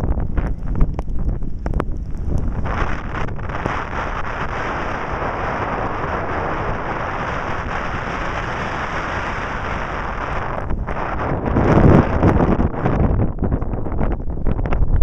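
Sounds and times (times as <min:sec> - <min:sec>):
blizzard wind on microphone: 0:00.0 - 0:15.0.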